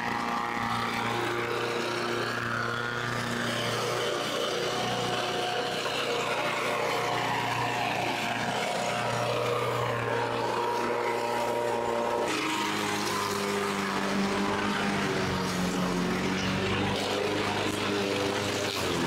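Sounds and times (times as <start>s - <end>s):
lawn mower motor running: 0.0s - 19.0s.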